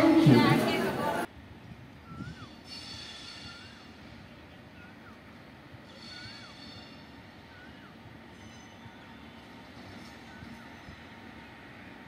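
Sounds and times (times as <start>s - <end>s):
distant train rumble: 0.0s - 12.0s.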